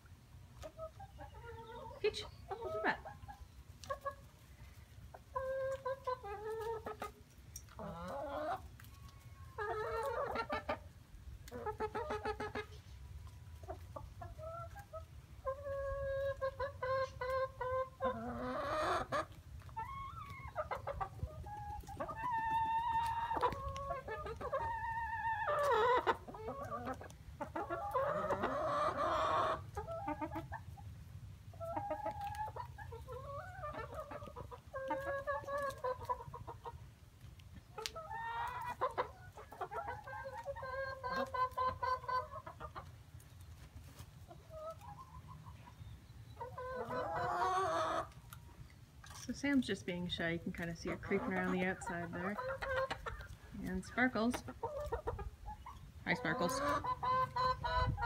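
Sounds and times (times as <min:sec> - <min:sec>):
hens clucking: 0:00.0 - 0:58.0
hens squawking: 0:00.6 - 0:04.3, 0:05.2 - 0:12.8, 0:13.6 - 0:30.8, 0:31.5 - 0:36.9, 0:37.6 - 0:43.0, 0:46.4 - 0:48.6, 0:50.0 - 0:58.0.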